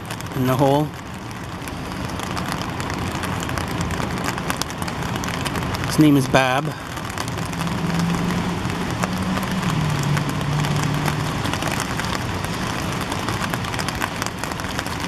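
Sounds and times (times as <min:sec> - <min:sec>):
steady rain: 0:00.0 - 0:15.0
vehicle engine hum: 0:00.0 - 0:15.0.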